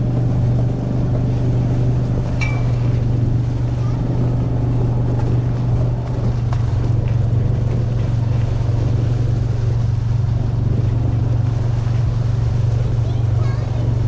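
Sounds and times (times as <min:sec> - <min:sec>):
utility vehicle engine droning: 0:00.0 - 0:14.0.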